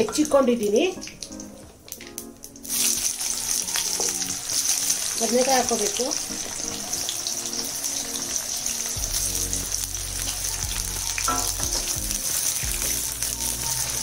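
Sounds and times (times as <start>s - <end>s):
vegetables sizzling in hot oil: 2.0s - 14.0s.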